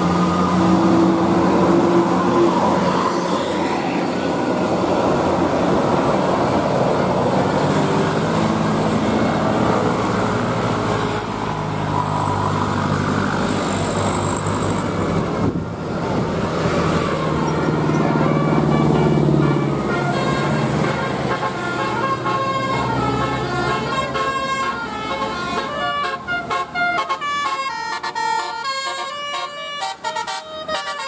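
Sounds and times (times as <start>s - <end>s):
bus engine hum: 0.0s - 31.0s
road and traffic noise: 0.0s - 31.0s.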